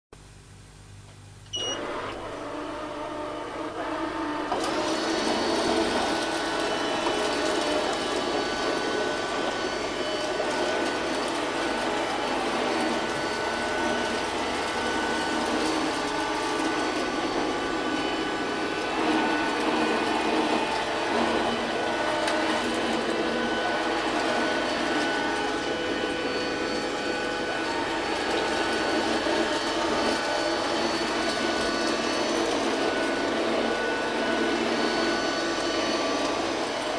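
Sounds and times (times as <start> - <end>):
robot vacuum motors running: 1.5 - 36.9.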